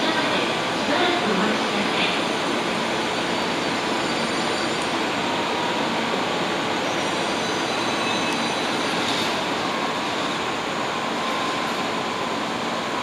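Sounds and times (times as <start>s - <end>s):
electric trains humming: 0.0s - 13.0s.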